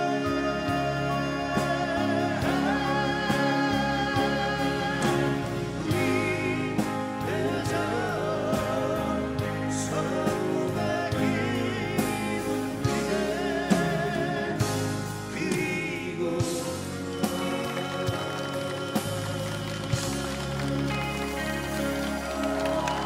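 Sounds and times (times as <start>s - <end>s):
men singing together: 0.0s - 19.4s
drums: 0.0s - 23.0s
keyboard: 0.0s - 23.0s.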